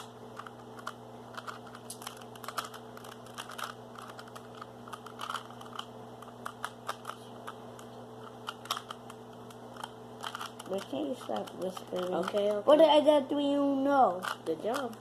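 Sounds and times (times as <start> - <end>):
plastic puzzle cube twisting clicks: 0.0 - 12.6
steady low hum: 0.0 - 15.0.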